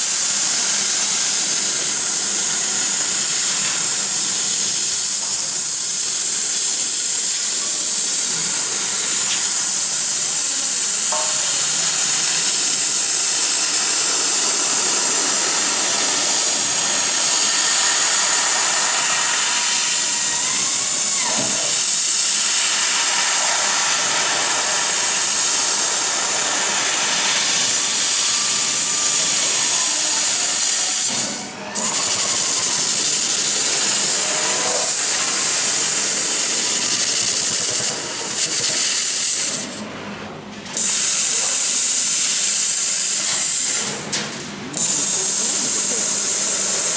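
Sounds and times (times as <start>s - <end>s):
laser cutter gas jet hiss: 0.0s - 39.8s, 40.7s - 46.9s.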